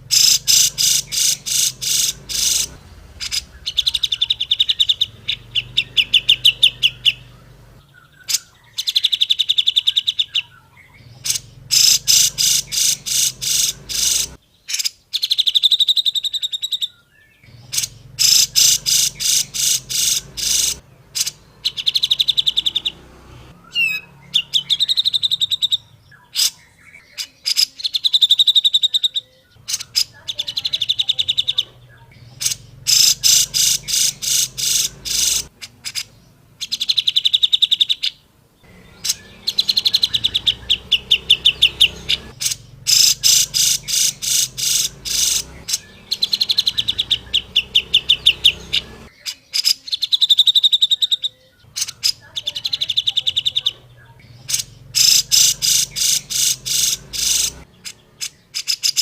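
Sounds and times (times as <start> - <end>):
bird calling harsh notes: 0.0 - 59.0.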